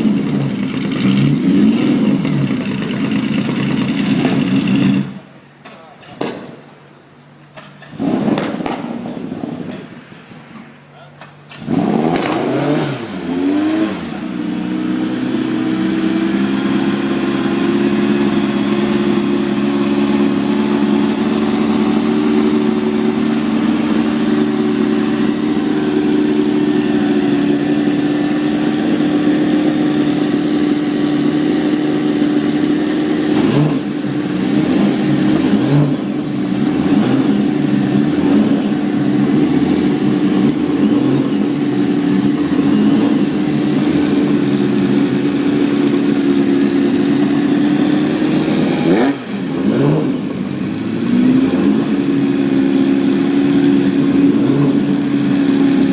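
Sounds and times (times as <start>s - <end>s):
sports car engine idling and revving: 0.0s - 55.9s.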